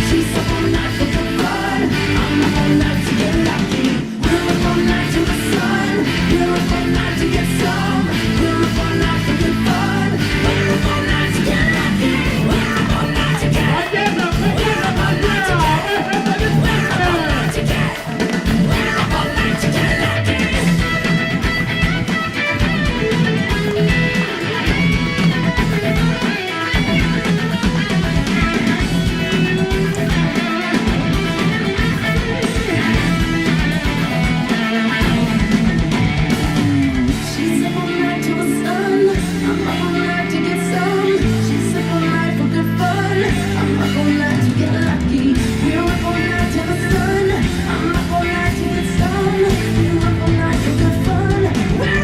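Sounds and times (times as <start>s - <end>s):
steady drum beat: 0.0s - 37.8s, 43.3s - 52.0s
guitar rock music: 0.0s - 52.0s.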